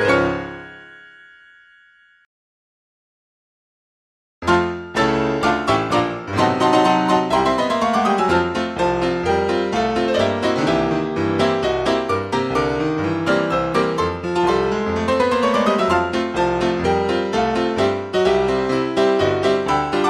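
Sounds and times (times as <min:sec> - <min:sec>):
piano piece: 0:00.0 - 0:01.1, 0:04.4 - 0:20.0.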